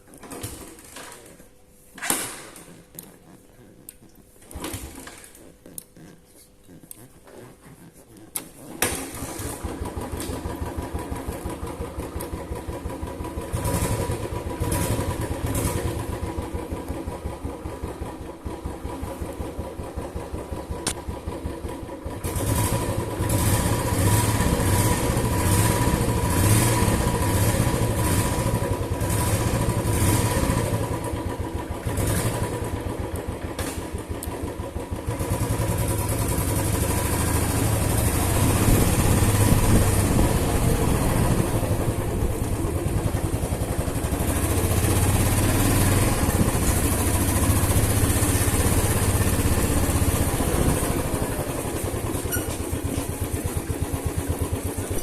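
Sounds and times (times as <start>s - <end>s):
motorcycle engine running: 8.8s - 55.0s.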